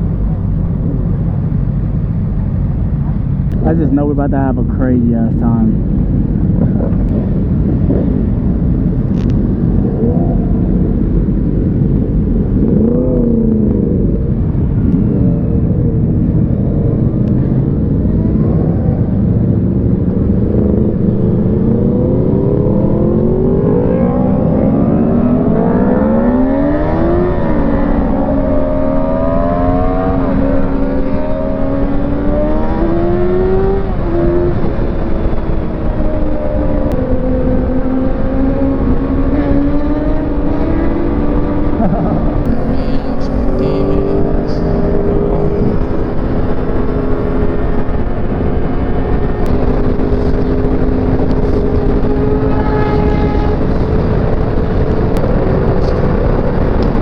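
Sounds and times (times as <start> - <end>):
motorcycle engine accelerating: 0.0 - 57.0
wind rush on microphone: 0.0 - 57.0.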